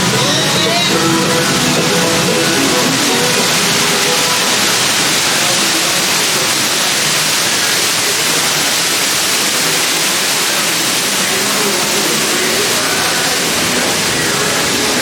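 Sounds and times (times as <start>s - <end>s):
water rushing along a channel: 0.0s - 15.0s.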